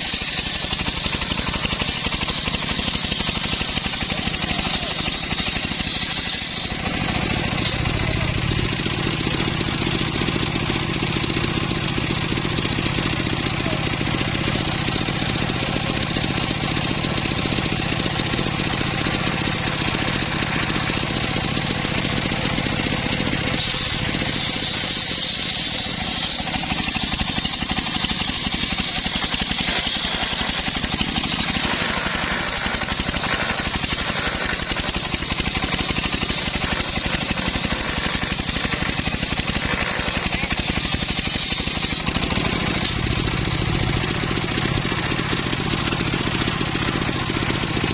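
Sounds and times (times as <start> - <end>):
high bright sawing sound: 0.0 - 47.9
sawmill engine running: 0.0 - 47.9.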